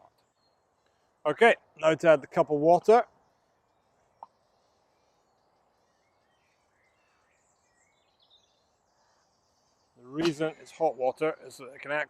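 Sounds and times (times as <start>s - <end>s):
faint bird chirps: 0.0s - 1.2s, 3.1s - 12.0s.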